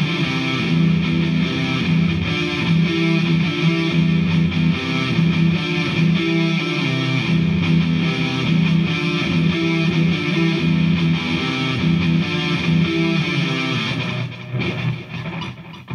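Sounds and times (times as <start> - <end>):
distorted electric guitar riff: 0.0 - 15.9.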